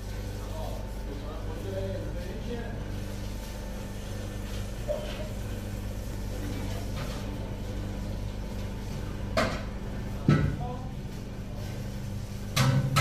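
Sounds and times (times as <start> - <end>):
machine hum with low tones: 0.0 - 13.0.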